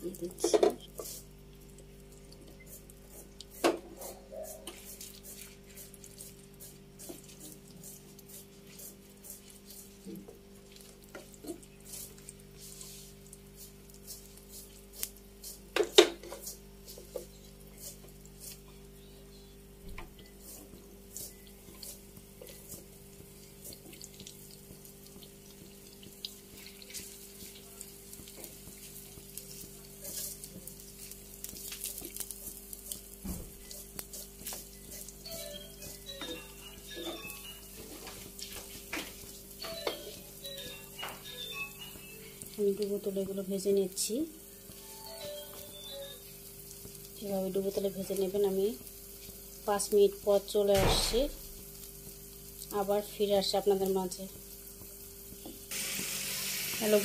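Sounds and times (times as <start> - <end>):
potatoes sizzling in hot oil: 4.7 - 19.0, 19.6 - 57.0.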